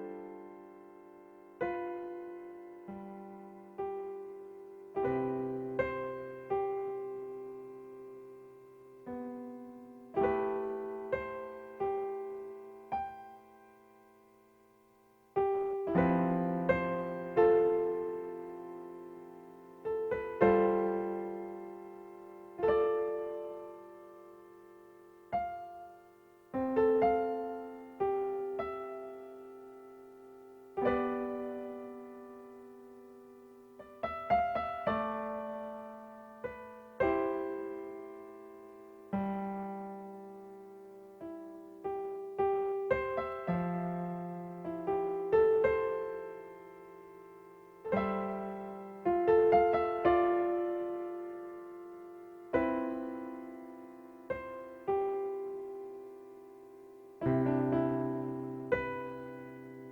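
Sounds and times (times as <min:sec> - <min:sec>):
slow piano music: 0:00.0 - 0:59.9.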